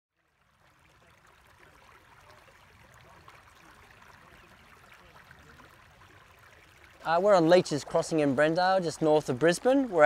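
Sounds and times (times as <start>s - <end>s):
stream running water: 0.1s - 10.0s.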